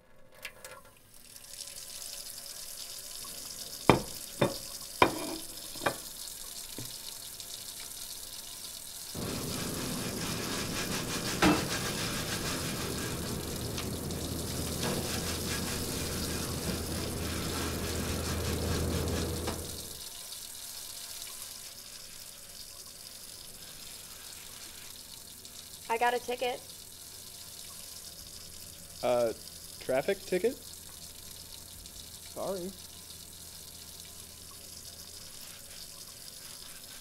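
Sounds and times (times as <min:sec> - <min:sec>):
tap water running into sink: 0:01.2 - 0:37.0.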